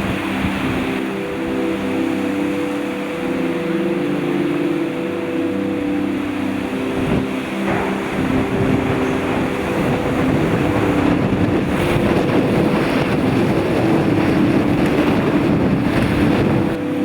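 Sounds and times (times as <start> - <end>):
low background music: 0.0 - 17.0
strong storm wind: 0.0 - 17.0.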